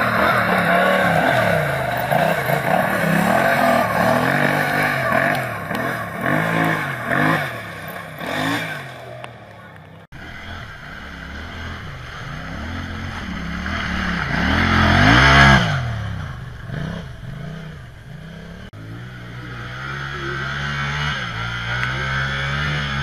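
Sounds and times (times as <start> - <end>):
tractor engine revving: 0.0 - 23.0.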